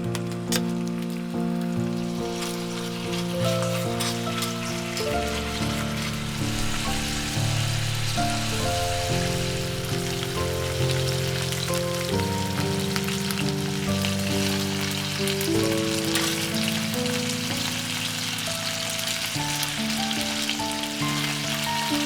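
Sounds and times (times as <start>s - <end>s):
background music of held notes: 0.0s - 22.0s
food sizzling in a frying pan: 0.1s - 22.0s.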